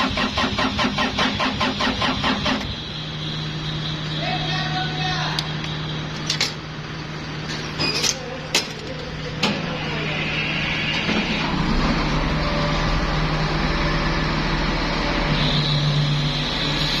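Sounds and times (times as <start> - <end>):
compressor humming: 0.0 - 17.0
rushing mechanical noise: 0.0 - 17.0.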